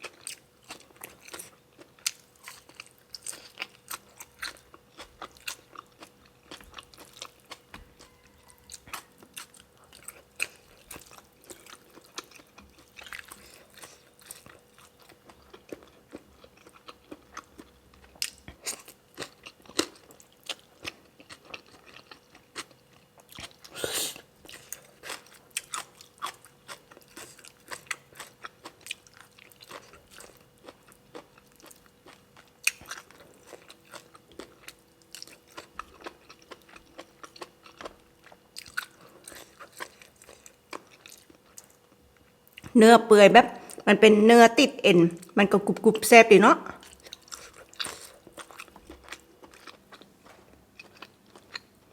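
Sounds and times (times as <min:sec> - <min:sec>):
person chewing crunchy food: 0:00.0 - 0:42.8, 0:46.7 - 0:51.9.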